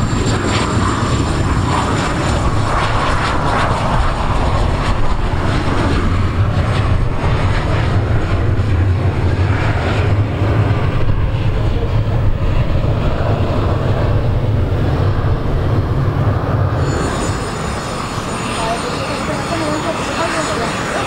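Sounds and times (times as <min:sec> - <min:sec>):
jet engines at taxi power: 0:00.0 - 0:21.0.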